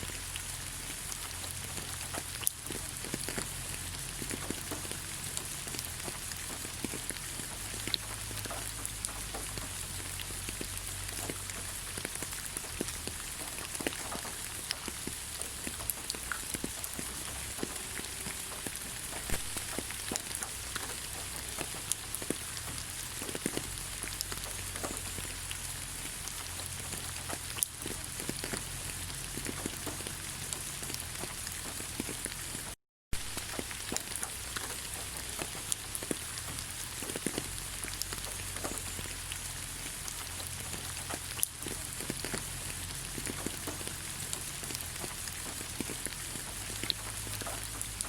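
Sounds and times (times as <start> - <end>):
rain falling on leaves: 0.0 - 48.0.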